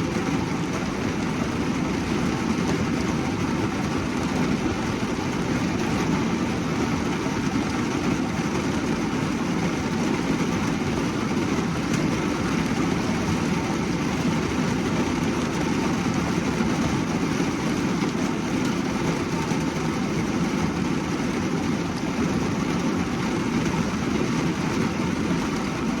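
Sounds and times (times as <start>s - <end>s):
rain drumming on car roof: 0.0s - 26.0s.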